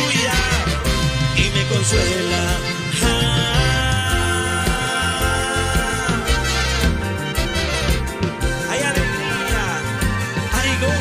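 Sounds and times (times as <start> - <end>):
live band playing: 0.0 - 11.0.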